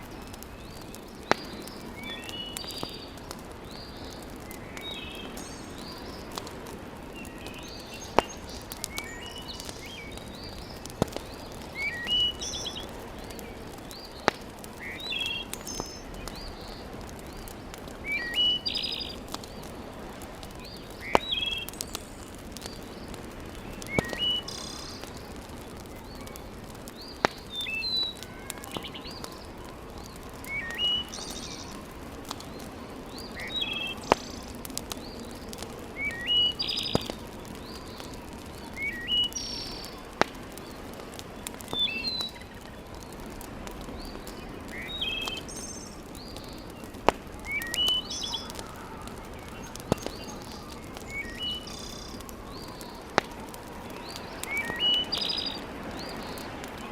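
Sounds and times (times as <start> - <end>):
sharp pops: 0.0 - 56.8
small birds chirping: 0.0 - 56.9.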